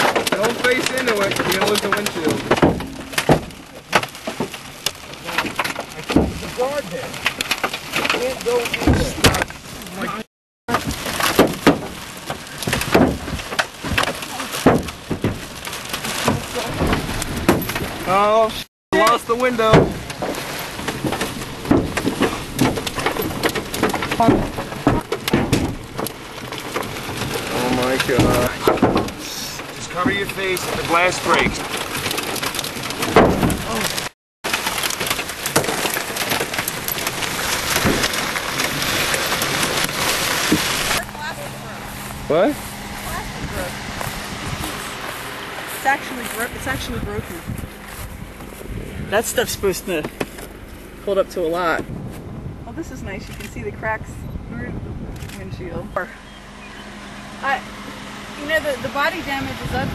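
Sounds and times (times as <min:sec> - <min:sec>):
hailstones pounding truck: 0:00.0 - 0:54.7, 0:55.3 - 0:59.9
rain and wind rushing: 0:00.0 - 0:59.9.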